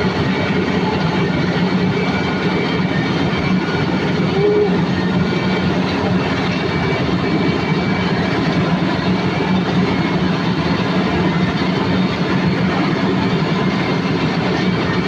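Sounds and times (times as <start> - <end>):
paving machinery diesel drone: 0.0 - 15.0
rough mechanical rumble: 0.0 - 15.0.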